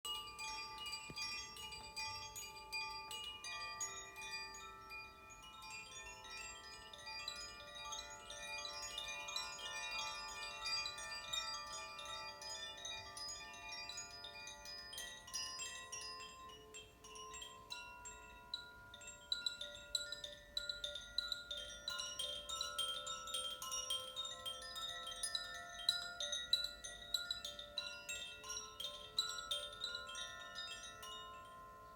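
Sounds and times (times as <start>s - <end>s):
chimes ringing: 0.1s - 31.9s.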